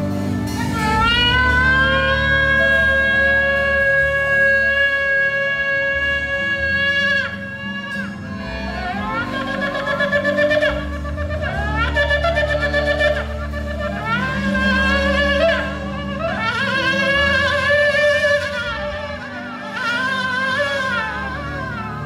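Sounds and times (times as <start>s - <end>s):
low musical drone: 0.0s - 22.0s
shofar blast: 0.2s - 22.0s.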